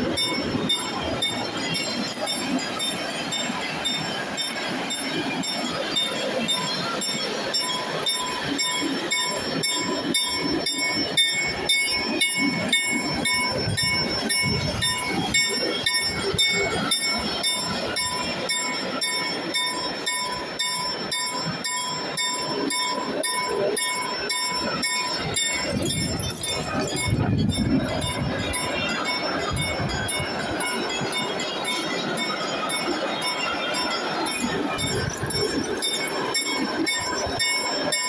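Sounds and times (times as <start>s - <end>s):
freight train rumbling: 0.0s - 38.0s
level-crossing bell ringing: 0.0s - 38.0s.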